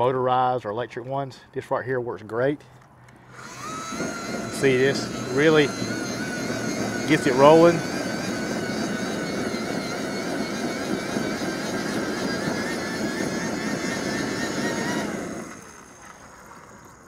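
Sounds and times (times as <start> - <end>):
hand-crank blower fan whining: 3.1 - 17.0.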